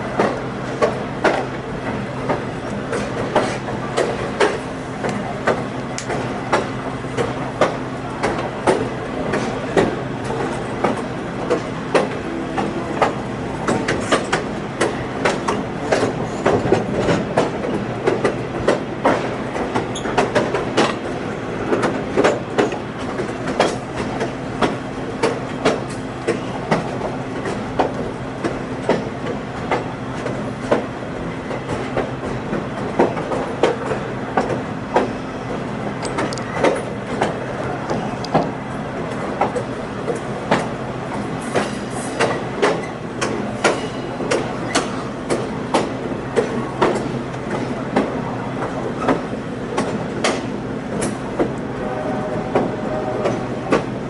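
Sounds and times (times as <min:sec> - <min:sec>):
train humming: 0:00.0 - 0:54.0
wheels clacking over rails: 0:00.1 - 0:54.0.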